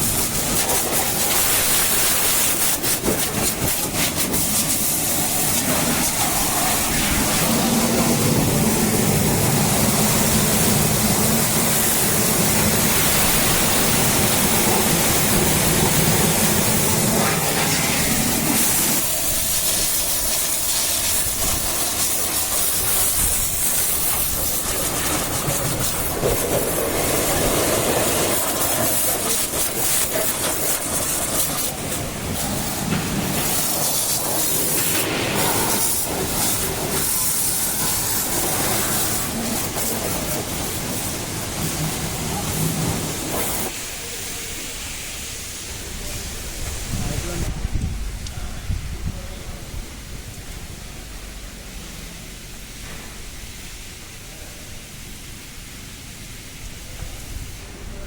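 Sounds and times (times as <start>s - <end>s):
high-pressure water spray hissing: 0.0s - 58.0s.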